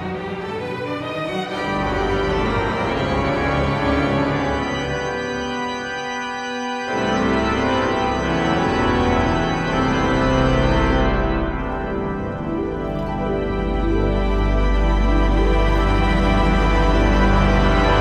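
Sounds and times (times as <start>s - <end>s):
pipe organ chords: 1.4s - 18.0s.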